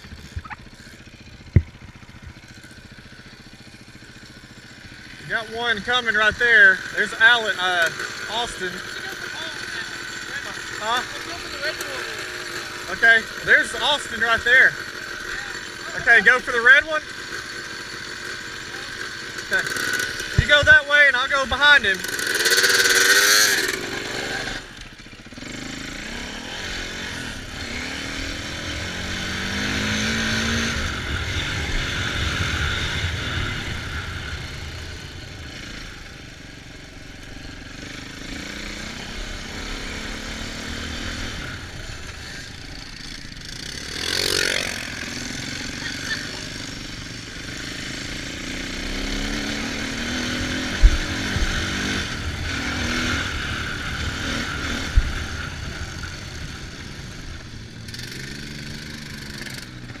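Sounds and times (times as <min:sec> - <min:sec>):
dirt bike engine revving: 0:00.0 - 1:00.0.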